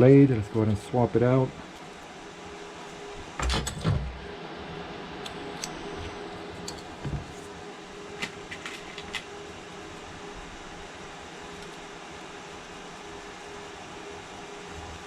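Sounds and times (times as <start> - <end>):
steady faint hum: 0.0 - 15.0.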